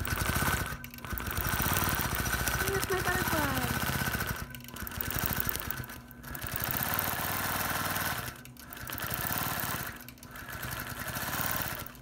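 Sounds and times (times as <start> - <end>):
quilting machine stitching: 0.0 - 12.0.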